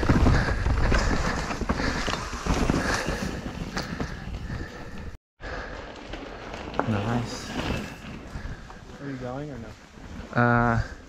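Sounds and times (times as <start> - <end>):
bike rattling over rocks: 0.0 - 10.3.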